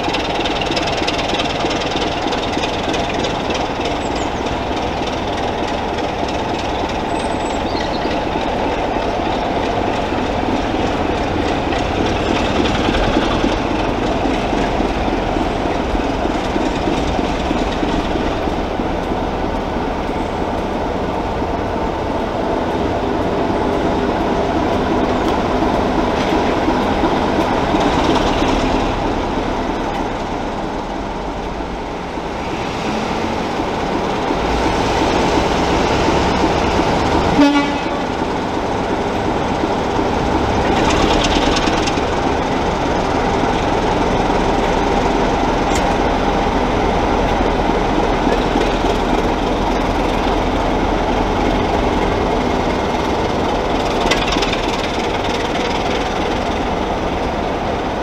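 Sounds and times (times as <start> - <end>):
diesel locomotive engine: 0.0 - 58.0.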